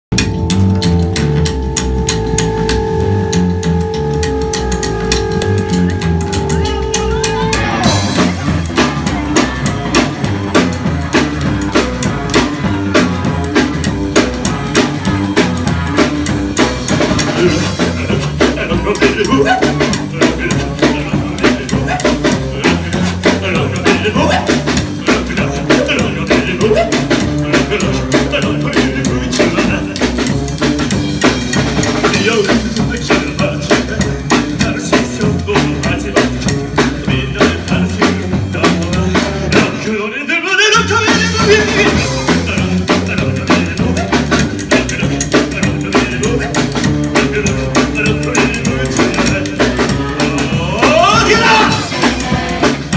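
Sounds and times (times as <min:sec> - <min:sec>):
drum kit beat: 0:00.0 - 0:52.9
rockabilly band playing: 0:00.1 - 0:52.9
man singing: 0:03.9 - 0:30.9, 0:31.8 - 0:52.9.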